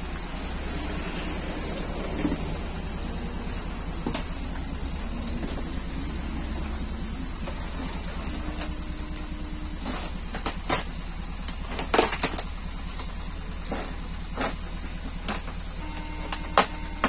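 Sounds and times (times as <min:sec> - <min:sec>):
steady low rumble: 0:00.0 - 0:17.0
cardboard boxes rustling and knocking: 0:01.3 - 0:02.7, 0:03.4 - 0:17.0.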